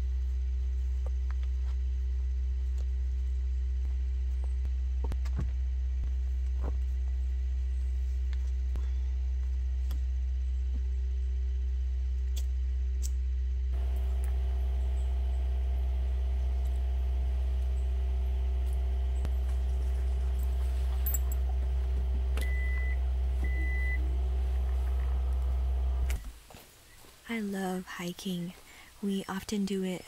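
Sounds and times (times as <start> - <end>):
steady low rumble: 0.0 - 26.4.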